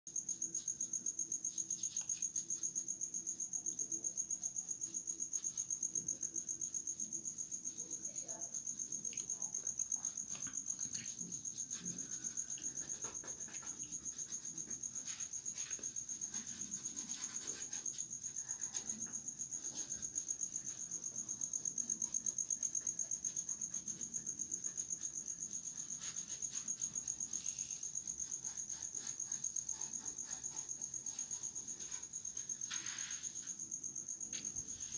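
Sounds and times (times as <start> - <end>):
cricket trilling: 0.1 - 34.9.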